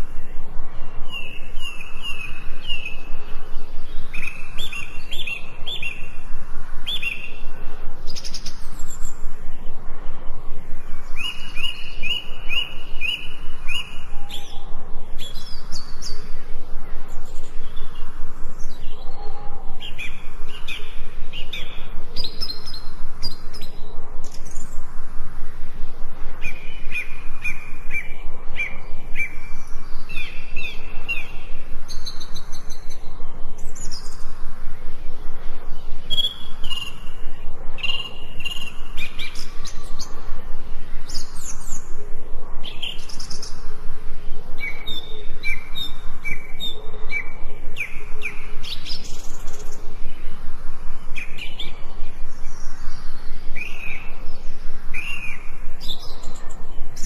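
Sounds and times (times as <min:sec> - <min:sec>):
birds singing and chirping: 0:00.0 - 0:57.0
steady background hiss: 0:00.0 - 0:57.0.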